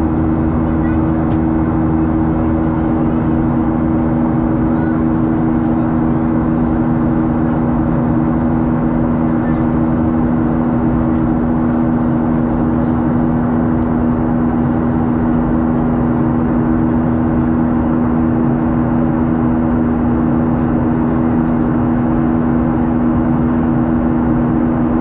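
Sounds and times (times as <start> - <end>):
engine and airflow rush: 0.0 - 25.0
steady two-note hum: 0.0 - 25.0.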